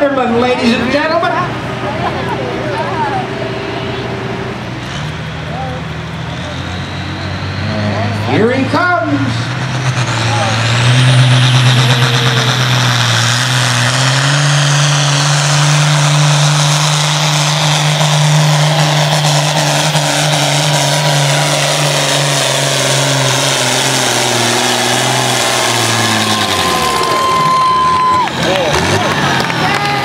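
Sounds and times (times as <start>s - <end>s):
tractor engine at full throttle: 0.0s - 30.0s.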